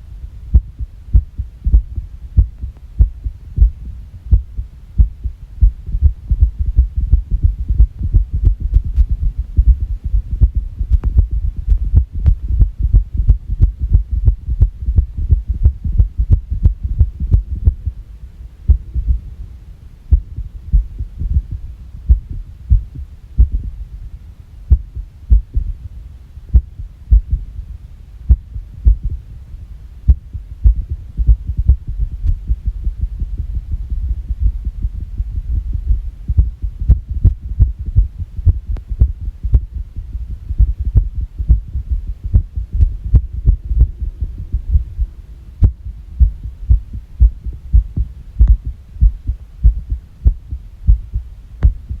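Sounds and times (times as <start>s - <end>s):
heartbeat thuds: 0.0s - 18.0s, 18.7s - 19.3s, 20.1s - 24.0s, 24.6s - 27.7s, 28.3s - 29.3s, 30.0s - 52.0s
steady low hum: 0.0s - 52.0s.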